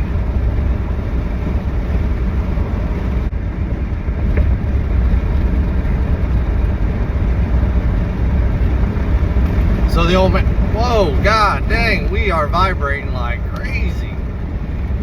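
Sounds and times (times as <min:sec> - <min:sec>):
heavy vibration: 0:00.0 - 0:15.0
road noise: 0:00.0 - 0:15.0
vehicle engine rumble: 0:00.0 - 0:15.0.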